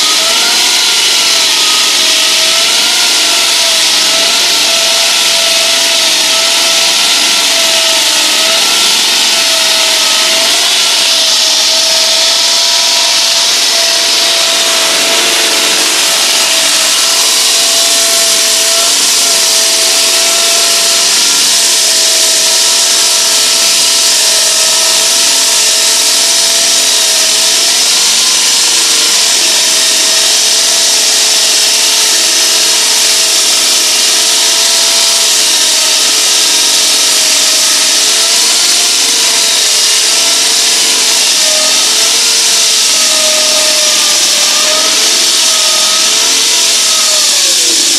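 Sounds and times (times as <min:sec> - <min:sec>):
wall saw cutting concrete: 0:00.0 - 0:47.9.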